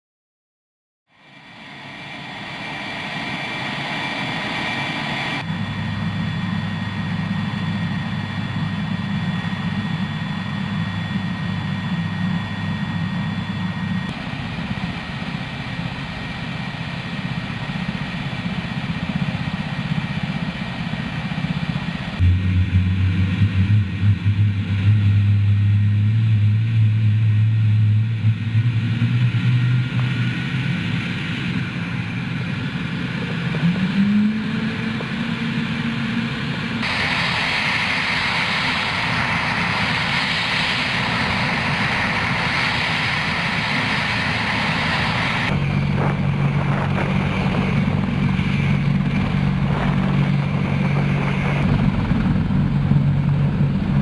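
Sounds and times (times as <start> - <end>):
helicopter rotor drone: 1.1 - 54.0.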